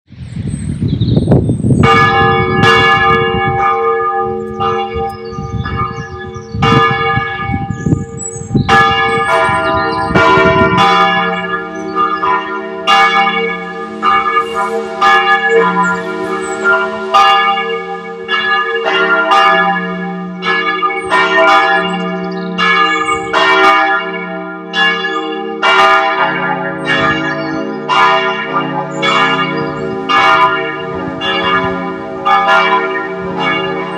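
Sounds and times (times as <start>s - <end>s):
church bells pealing: 1.8s - 33.9s.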